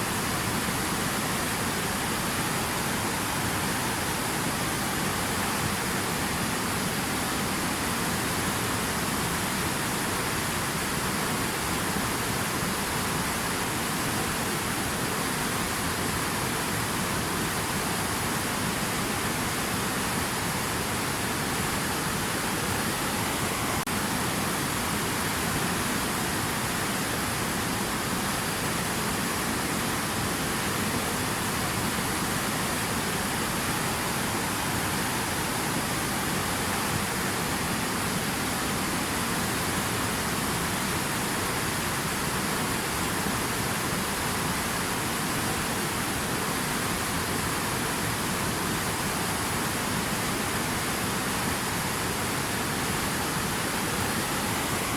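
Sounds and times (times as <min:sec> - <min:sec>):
rushing water: 0:00.0 - 0:54.9.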